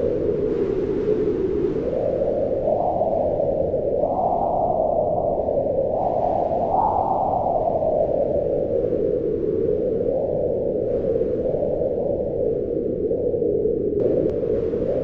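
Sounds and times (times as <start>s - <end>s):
howling mountain wind: 0.0s - 15.0s.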